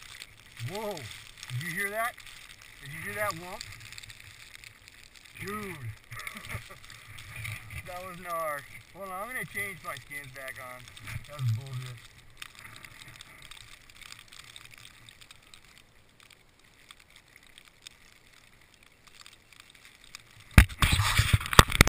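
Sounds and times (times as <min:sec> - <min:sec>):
gear rustling and clicking: 0:00.0 - 0:21.9
rough rushing and crackling: 0:00.0 - 0:21.9.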